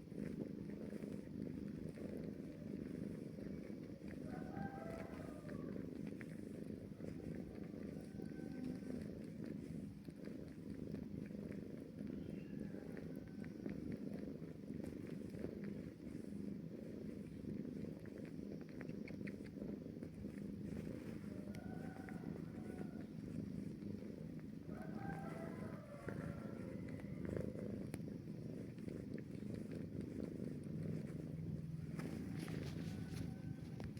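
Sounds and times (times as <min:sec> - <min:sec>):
kitten purring: 0:00.0 - 0:33.9.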